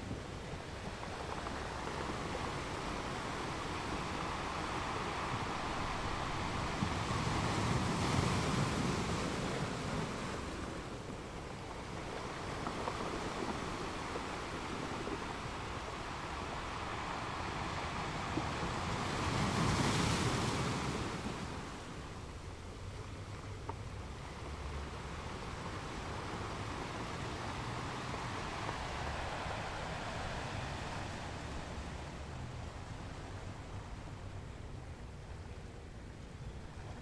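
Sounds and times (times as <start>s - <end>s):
waves washing and splashing: 0.0s - 37.0s
wind buffeting microphone: 0.0s - 37.0s.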